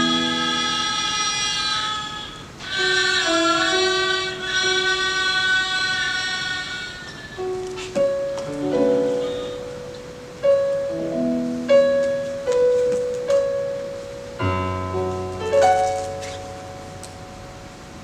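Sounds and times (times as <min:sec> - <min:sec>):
haegeum long held notes: 0:00.0 - 0:18.0
piano chords: 0:00.0 - 0:18.0.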